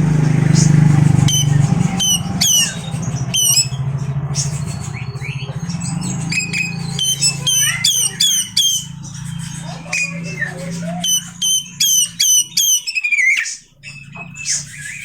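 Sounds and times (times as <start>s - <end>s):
harsh squawky bird calls: 0.0s - 15.0s
bird whistling song: 0.1s - 15.0s.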